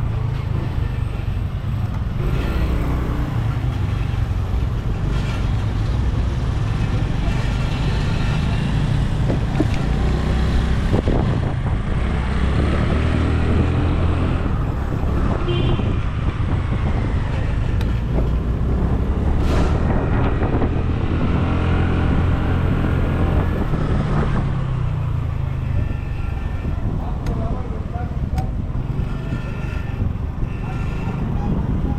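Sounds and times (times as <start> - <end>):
road noise: 0.0 - 31.9.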